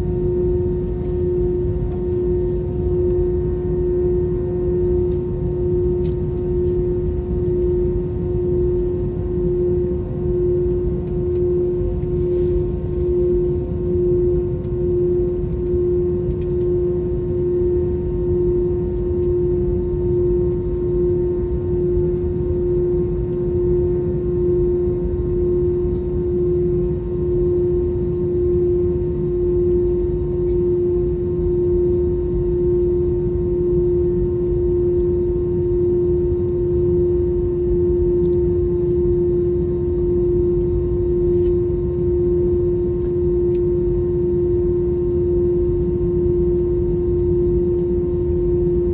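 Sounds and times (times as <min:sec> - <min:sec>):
jet engines idling drone: 0:00.0 - 0:48.9.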